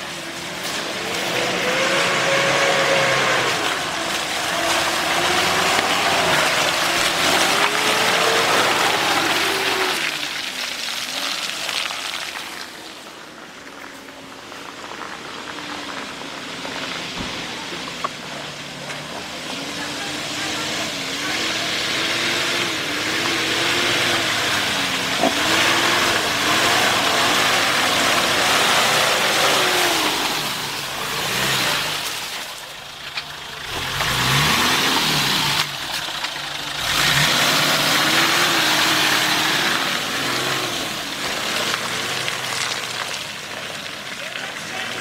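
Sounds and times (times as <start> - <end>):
off-road vehicle engine revving: 0.0 - 45.0
tyres churning mud: 0.0 - 45.0.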